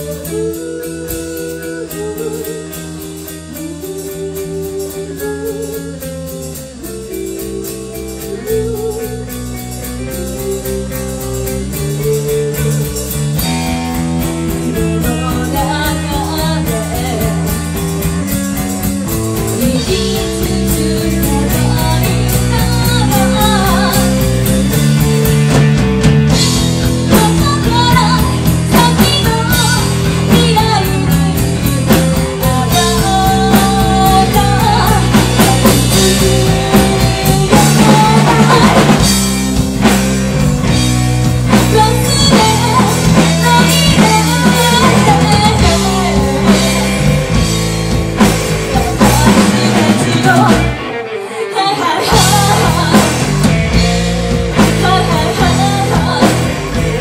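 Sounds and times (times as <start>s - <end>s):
woman singing: 0.0s - 25.5s, 26.3s - 47.6s, 48.2s - 57.0s
drum kit: 0.0s - 57.0s
electric bass: 0.0s - 57.0s
electric guitar: 0.0s - 57.0s.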